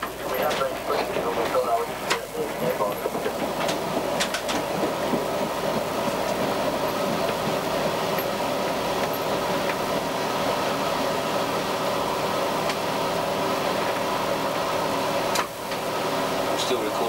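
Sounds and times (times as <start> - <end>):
railcar engine hum: 0.0 - 17.0.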